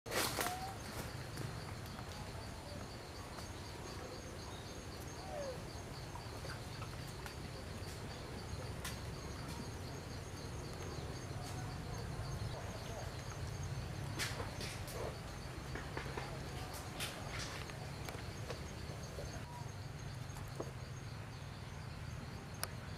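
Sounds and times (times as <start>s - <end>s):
insect chirping: 0.1s - 22.9s.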